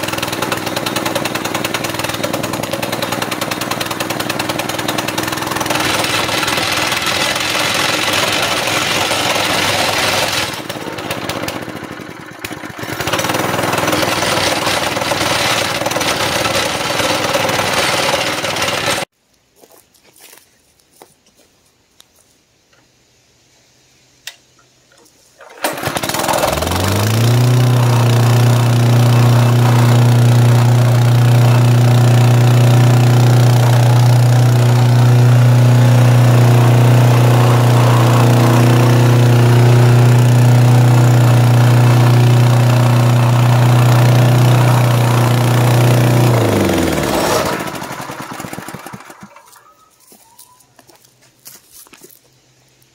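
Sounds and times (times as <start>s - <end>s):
plate compactor engine running: 0.0s - 19.1s, 25.4s - 49.6s.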